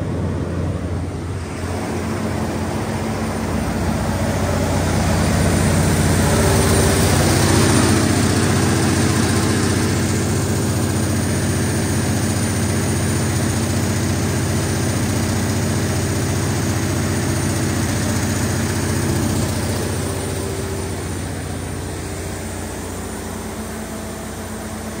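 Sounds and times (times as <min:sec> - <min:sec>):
diesel generator running: 0:00.0 - 0:25.0.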